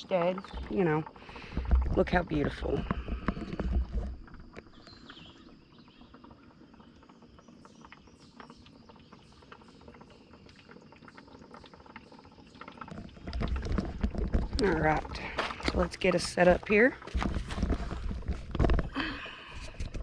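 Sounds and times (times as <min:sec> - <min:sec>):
light ticks and patters: 0:00.0 - 0:20.0
water lapping: 0:00.0 - 0:20.0.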